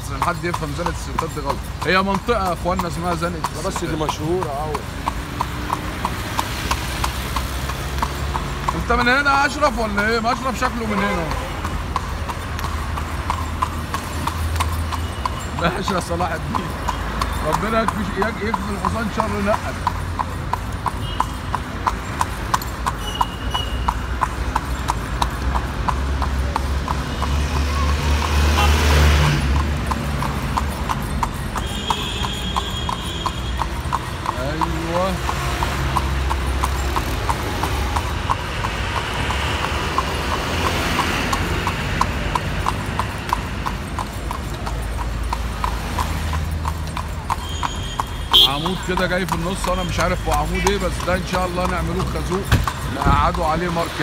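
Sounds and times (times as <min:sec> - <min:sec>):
city traffic rumble: 0:00.0 - 0:54.0
horse hooves clip-clopping on asphalt: 0:00.0 - 0:54.0.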